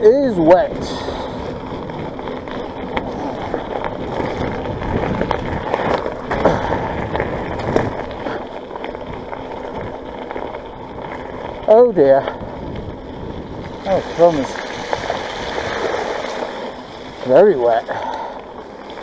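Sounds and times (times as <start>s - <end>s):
bike knocking and rattling: 0.0s - 19.0s
bike tyres rolling through water: 0.0s - 19.0s.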